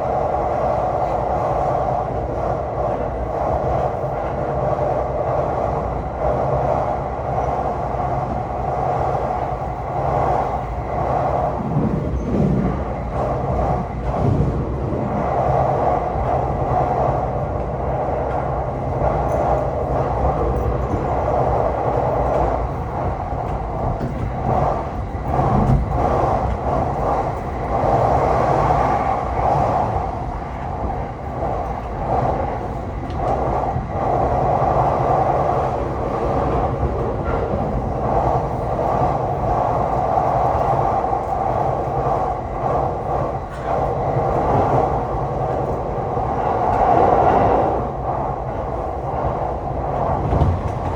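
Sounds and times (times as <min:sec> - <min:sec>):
train wheels rumbling on track: 0:00.0 - 0:50.9.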